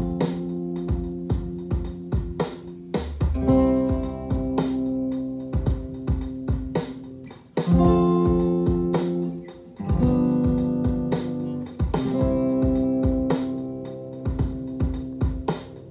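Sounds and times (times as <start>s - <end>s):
clean electric guitar chords: 0.0s - 2.8s, 3.4s - 15.9s.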